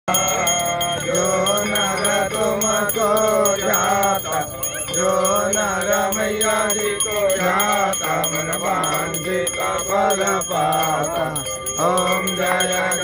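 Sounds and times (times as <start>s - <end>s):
bells ringing: 0.1s - 13.0s
man singing a hymn: 0.1s - 13.0s.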